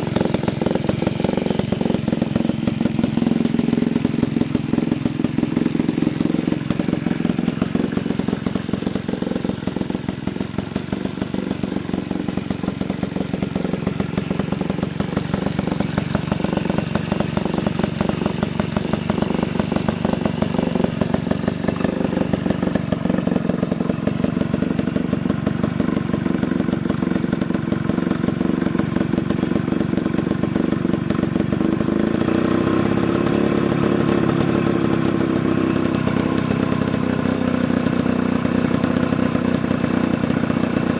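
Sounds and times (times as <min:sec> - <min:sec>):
chainsaw engine idling: 0:00.0 - 0:40.9.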